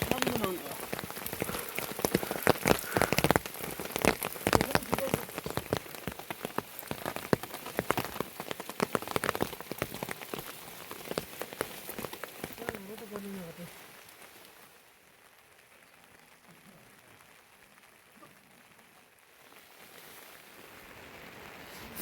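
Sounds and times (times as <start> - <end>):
heavy rain on hard surface: 0.0 - 22.0.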